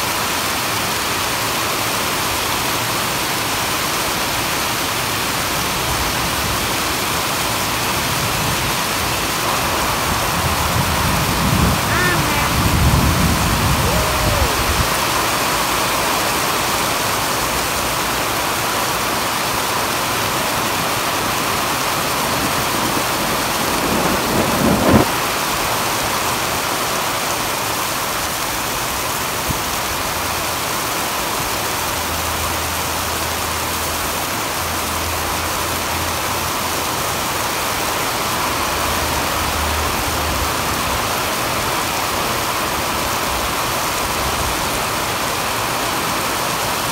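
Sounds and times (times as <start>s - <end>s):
rain on concrete and puddles: 0.0s - 46.9s.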